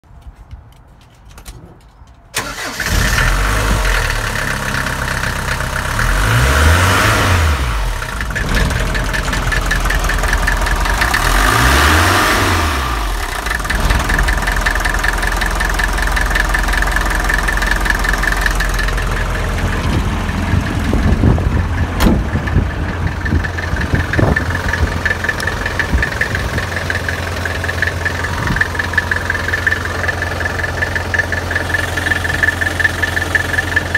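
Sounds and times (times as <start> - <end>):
diesel engine starting and revving: 2.4 - 33.9.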